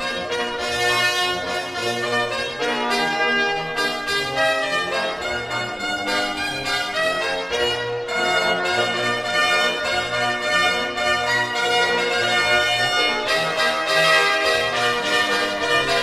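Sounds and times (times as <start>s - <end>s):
brass music with bass line: 0.0s - 16.0s.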